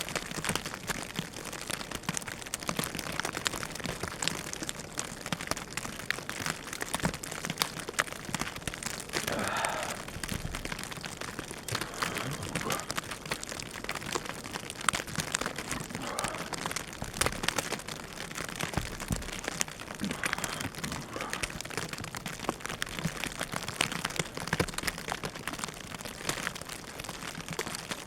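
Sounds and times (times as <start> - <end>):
crackling and pattering: 0.2 - 28.0.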